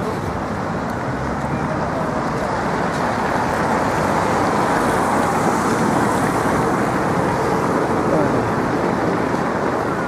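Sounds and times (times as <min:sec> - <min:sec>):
passing car traffic: 0:00.0 - 0:10.0.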